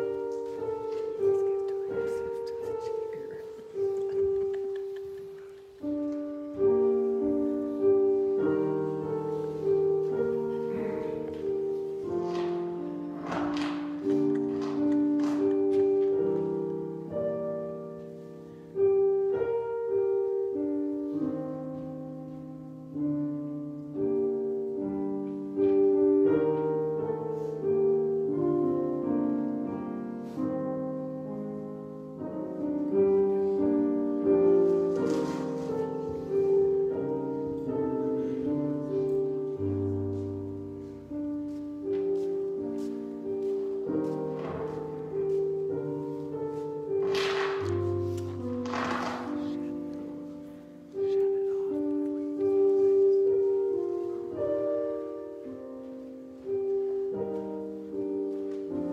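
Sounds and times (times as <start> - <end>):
piano playing slow chords: 0.0 - 58.9.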